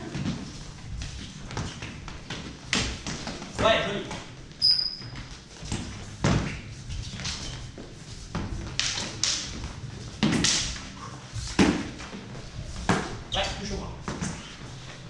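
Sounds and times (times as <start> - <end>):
footwork on floor: 0.0 - 15.0.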